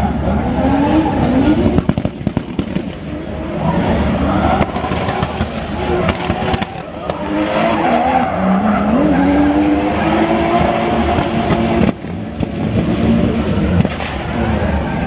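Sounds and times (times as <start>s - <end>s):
car engine revving high: 0.0s - 2.2s, 2.8s - 15.0s.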